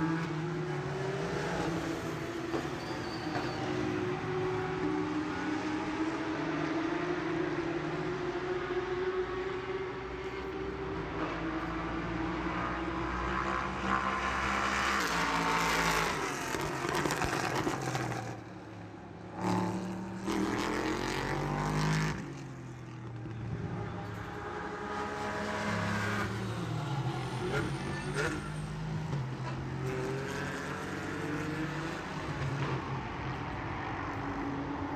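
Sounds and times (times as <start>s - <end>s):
race car engines at high revs: 0.0s - 34.9s.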